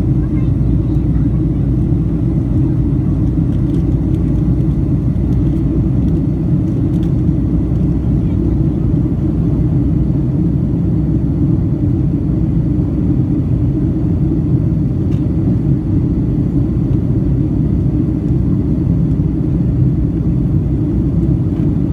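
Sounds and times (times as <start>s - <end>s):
airliner engines rumbling: 0.0s - 21.9s.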